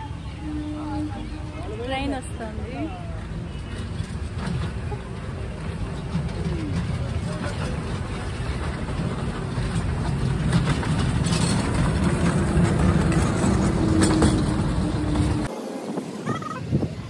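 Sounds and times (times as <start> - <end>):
miniature train rumbling on track: 0.0 - 16.9.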